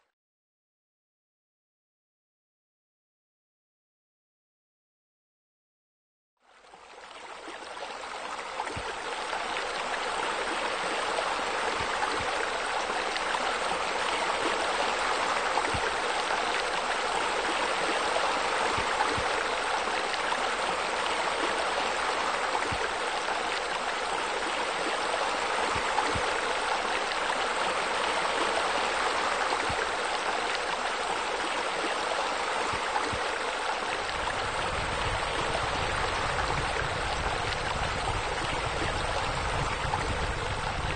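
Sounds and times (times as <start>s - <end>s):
water rushing and splashing: 6.6s - 40.9s.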